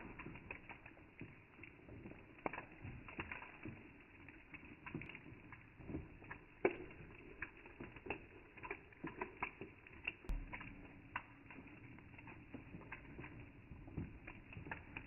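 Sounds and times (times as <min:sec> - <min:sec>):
water drops pattering: 0:00.1 - 0:15.0.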